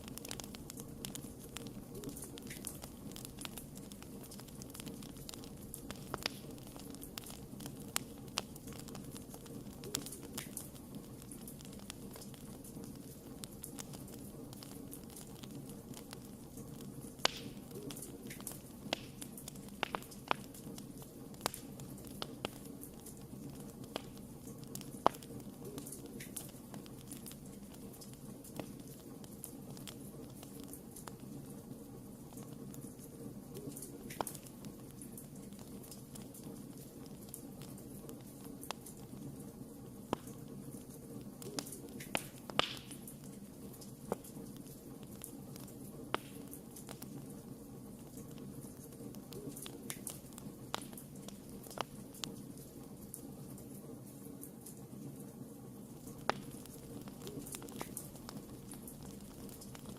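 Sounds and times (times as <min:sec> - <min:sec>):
campfire rumbling: 0:00.0 - 0:59.9
wood fire pops and snaps: 0:00.0 - 0:59.9.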